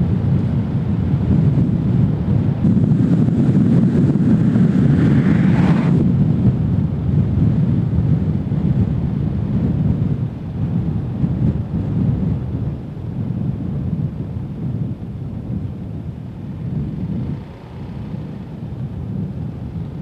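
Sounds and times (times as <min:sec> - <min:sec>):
car road noise rumble: 0:00.0 - 0:20.0
wind buffeting microphone: 0:00.0 - 0:20.0.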